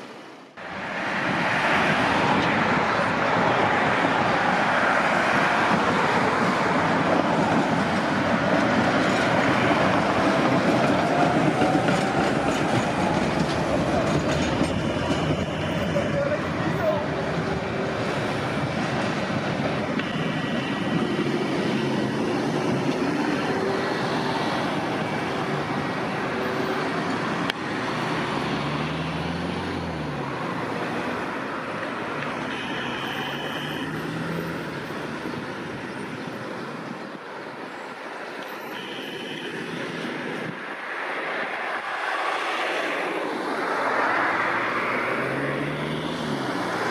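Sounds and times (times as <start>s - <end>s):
city street traffic: 0.0s - 46.9s.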